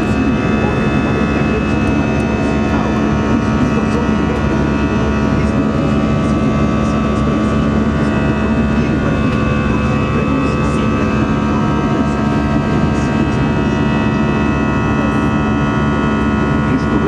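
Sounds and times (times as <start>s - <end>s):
jet engine rush in cabin: 0.0s - 17.0s
steady whining tones: 0.0s - 17.0s.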